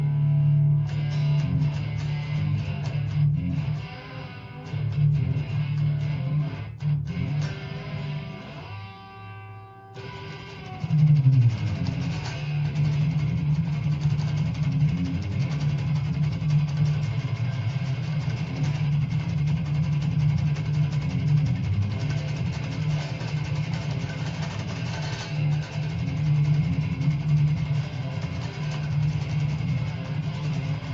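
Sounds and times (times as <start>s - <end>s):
electric guitar blues rhythm: 0.0s - 30.9s.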